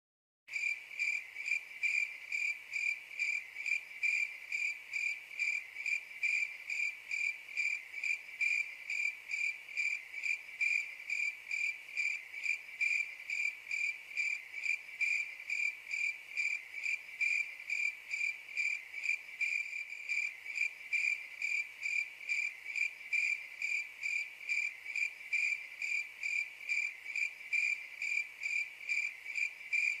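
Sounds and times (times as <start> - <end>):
cricket chirping: 0.5 - 30.0.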